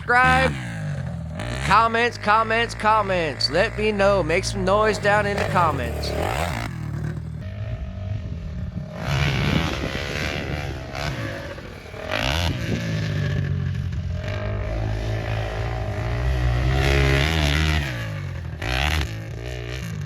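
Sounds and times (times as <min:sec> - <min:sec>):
quad engine revving: 0:00.0 - 0:20.0.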